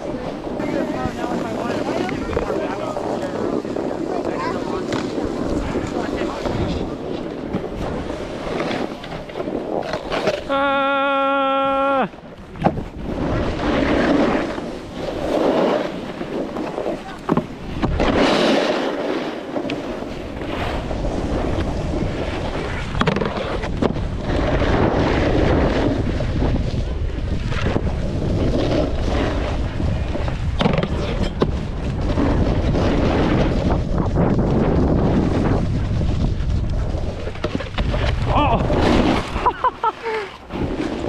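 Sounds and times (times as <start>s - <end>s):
wind buffeting microphone: 0.0s - 10.5s, 11.7s - 41.0s
snowboard scraping over snow: 0.0s - 41.0s.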